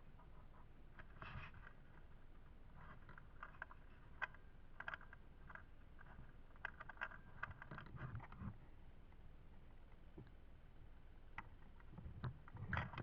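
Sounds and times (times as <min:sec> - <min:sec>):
faint clicks and crackles: 0:00.0 - 0:13.0.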